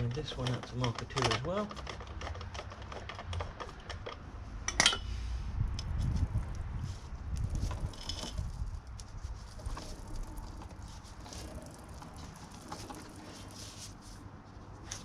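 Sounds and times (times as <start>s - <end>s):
low rumble of handling: 0.0s - 15.0s.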